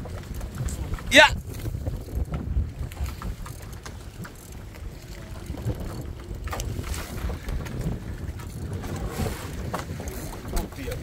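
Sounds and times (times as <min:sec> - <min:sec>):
choppy sea rumble: 0:00.0 - 0:11.0
water splashing against boat: 0:00.0 - 0:11.0
wind buffeting microphone: 0:00.0 - 0:11.0.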